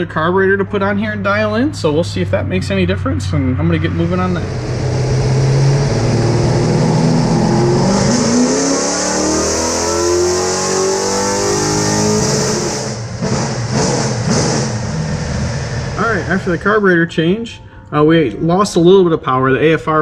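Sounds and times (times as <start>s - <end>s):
race car engine revving: 0.0s - 17.4s.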